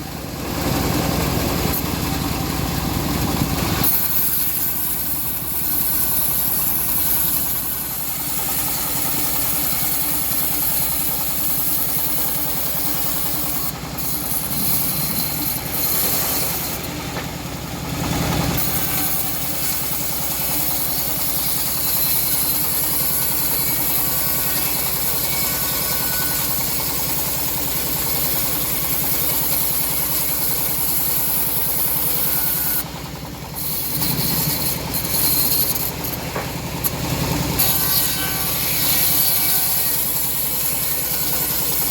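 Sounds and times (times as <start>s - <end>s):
bandsaw mill cutting wood: 0.0s - 41.9s.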